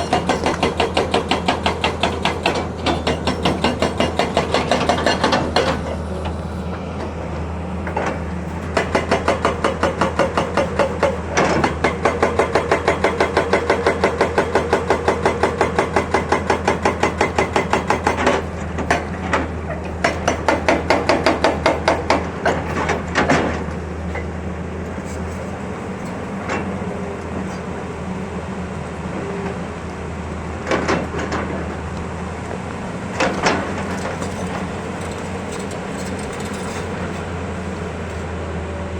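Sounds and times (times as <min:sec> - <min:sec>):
hydraulic breaker hammering rock: 0:00.0 - 0:06.4, 0:07.8 - 0:29.8, 0:30.5 - 0:38.0
diesel engine running: 0:00.0 - 0:38.9.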